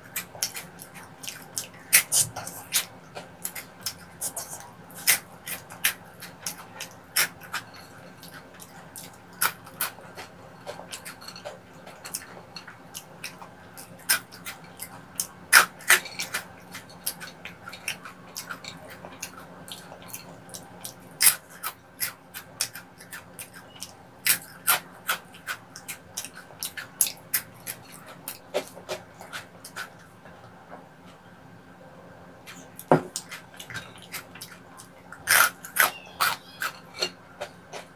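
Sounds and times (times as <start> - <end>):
crunching and chewing crispy snacks: 0.0 - 30.2, 32.5 - 37.9.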